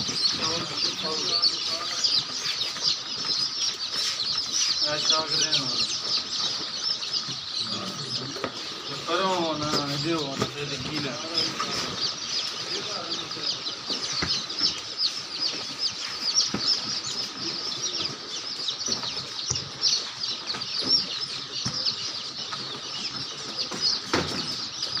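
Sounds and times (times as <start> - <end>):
chickens chirping: 0.0 - 25.0
chickens clucking: 0.0 - 25.0.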